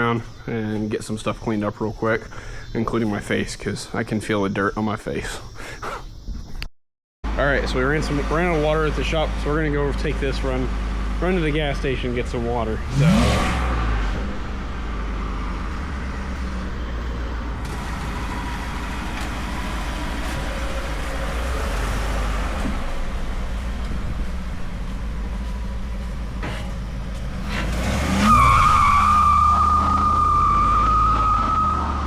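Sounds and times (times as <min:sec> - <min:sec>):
vehicle engine and road noise: 0:00.0 - 0:04.0, 0:07.2 - 0:32.0.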